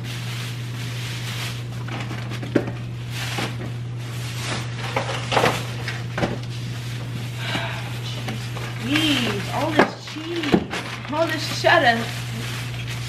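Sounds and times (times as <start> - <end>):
plastic bag rustling: 0.0 - 13.0
steady low hum: 0.0 - 13.0
items handled and set down: 1.1 - 7.2, 8.1 - 13.0.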